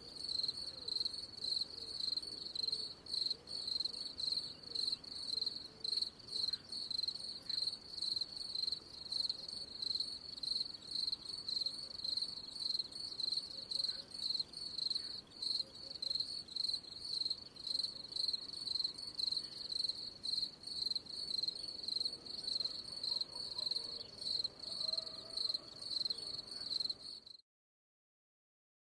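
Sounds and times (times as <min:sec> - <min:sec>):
cricket chirping: 0:00.0 - 0:27.4.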